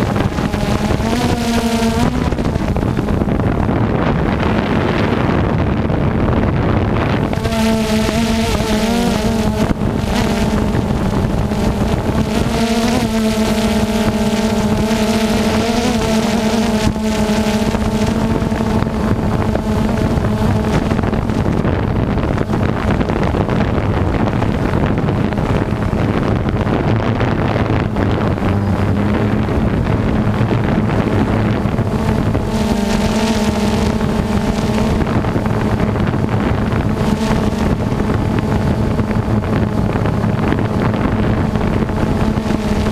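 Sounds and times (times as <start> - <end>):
continuous noisy rush: 0.0 - 42.9
harvester engine running: 0.0 - 42.9
wind on microphone: 0.0 - 42.9.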